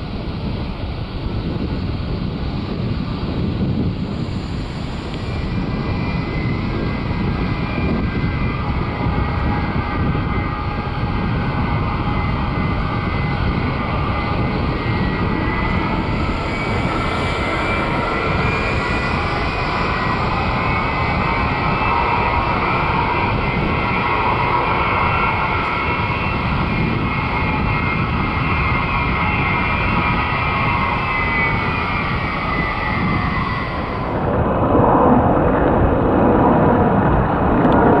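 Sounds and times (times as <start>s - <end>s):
jet engine whine: 0.0s - 38.0s
jet engines running: 0.0s - 38.0s.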